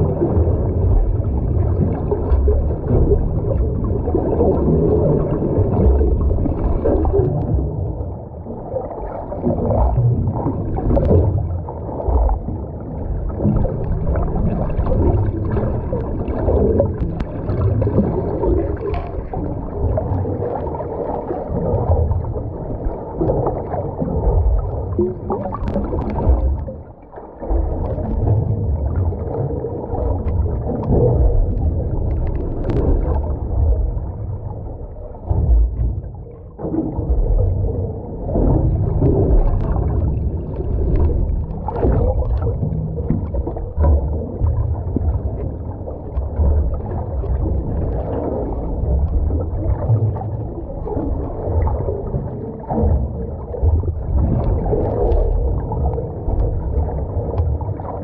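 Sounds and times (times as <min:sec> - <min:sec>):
underwater rumble of moving water: 0:00.0 - 0:58.0.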